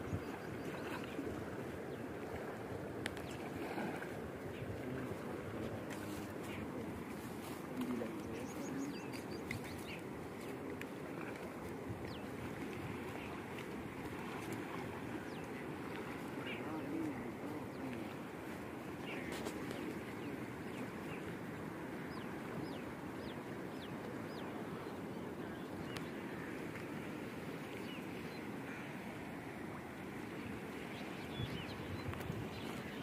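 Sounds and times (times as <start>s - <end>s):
river current rushing: 0.7s - 31.3s.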